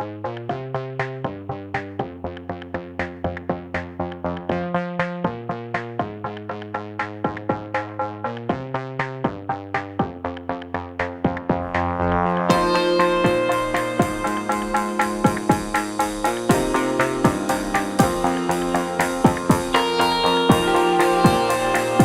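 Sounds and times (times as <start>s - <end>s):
synthesizer and drum-machine music: 0.0s - 22.0s.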